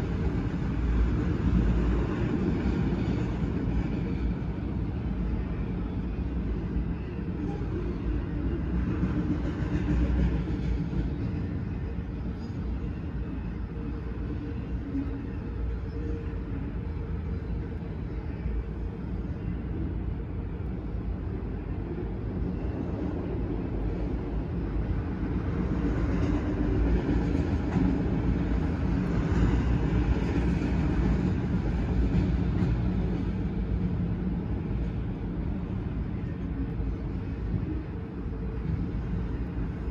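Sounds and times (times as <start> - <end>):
steel train wheels on rail: 0.0 - 39.9.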